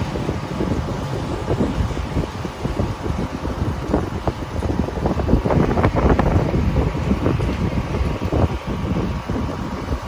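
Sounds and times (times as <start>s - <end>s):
street and vehicle noise: 0.0s - 10.0s
wind rumble on microphone: 0.0s - 10.0s.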